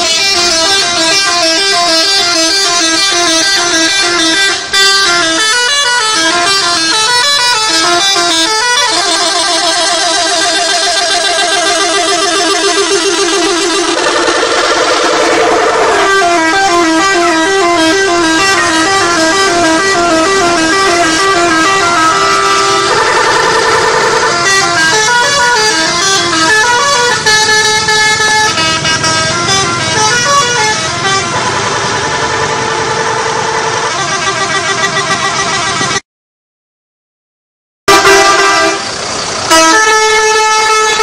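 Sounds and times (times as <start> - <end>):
musical bus horns playing tunes: 0.0 - 36.0, 37.9 - 41.0.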